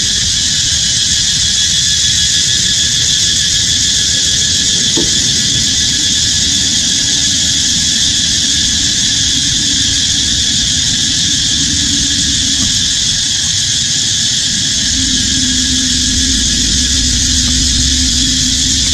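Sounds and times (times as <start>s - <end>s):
high-pitched insect chorus: 0.0s - 18.9s
low rough rumble: 3.0s - 18.9s.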